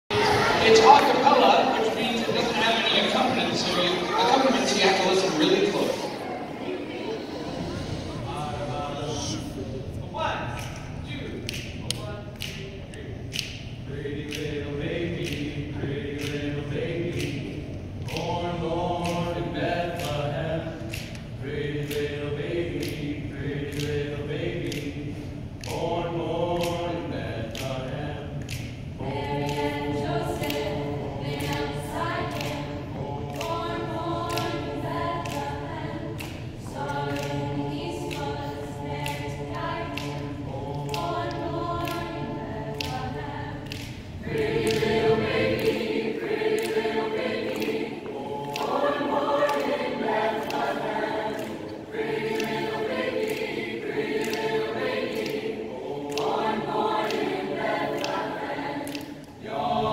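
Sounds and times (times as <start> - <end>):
choir singing a cappella: 0.1 - 59.9.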